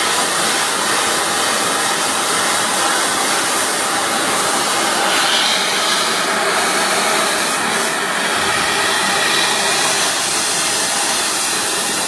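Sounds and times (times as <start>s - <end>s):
cutting machine rushing hiss: 0.0s - 12.0s.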